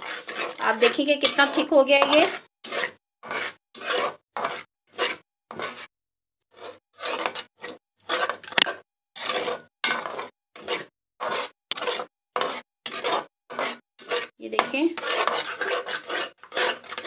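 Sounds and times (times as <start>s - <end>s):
spoon scraping a pan: 0.0s - 5.9s, 6.5s - 17.0s.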